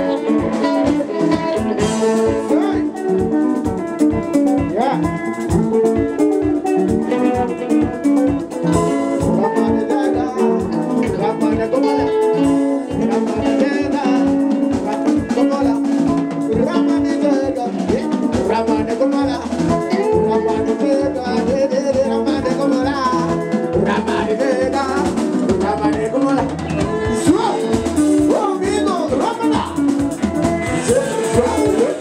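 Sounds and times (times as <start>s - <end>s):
bass guitar: 0.0s - 32.0s
drum kit beat: 0.0s - 32.0s
electric lead guitar: 0.0s - 32.0s.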